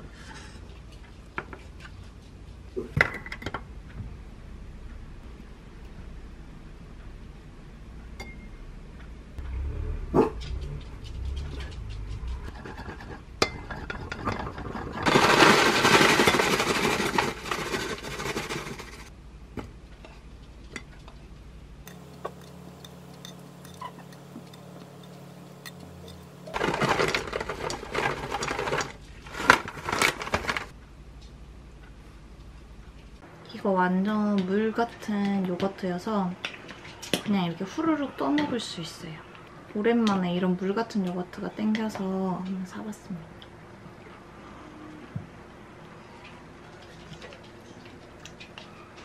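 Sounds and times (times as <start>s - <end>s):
low steady hum: 0.1s - 44.4s.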